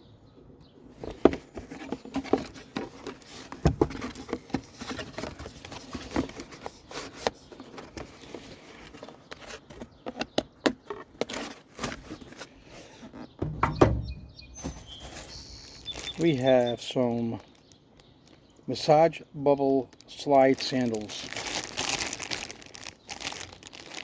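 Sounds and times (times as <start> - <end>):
packaging rustling and crinkling: 1.0 - 13.5, 14.5 - 18.9, 19.8 - 24.0.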